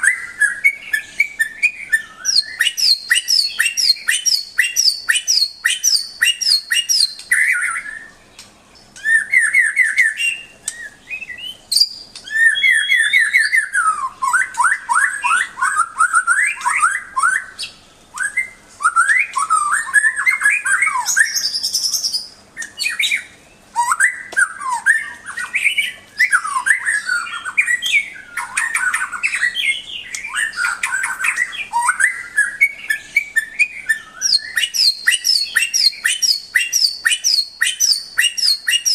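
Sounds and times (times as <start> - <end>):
bird singing whistled phrases: 0.0 - 8.4, 9.0 - 38.9.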